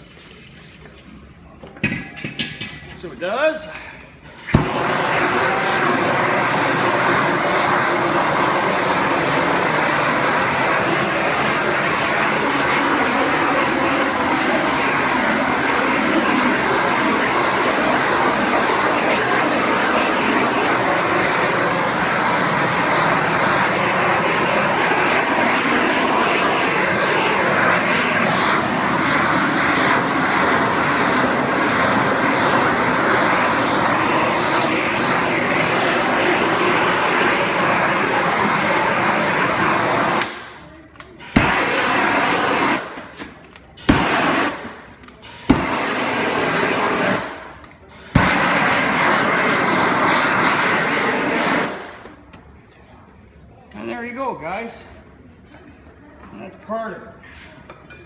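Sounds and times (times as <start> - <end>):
heat gun flame rushing: 4.3 - 43.2, 43.8 - 52.2.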